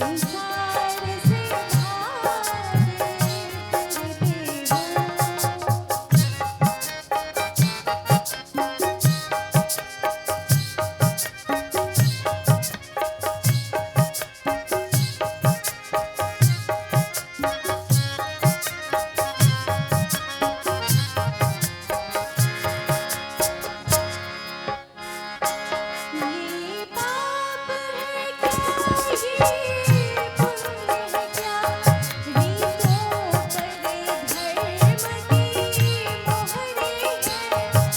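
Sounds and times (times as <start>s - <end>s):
tabla and dholak drumming: 0.0s - 24.8s, 25.4s - 27.2s, 28.4s - 37.9s
harmonium melody: 0.0s - 37.9s.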